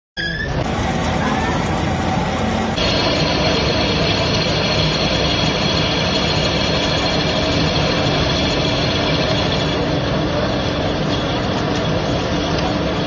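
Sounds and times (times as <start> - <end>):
machine mechanical drone: 0.2 - 13.0.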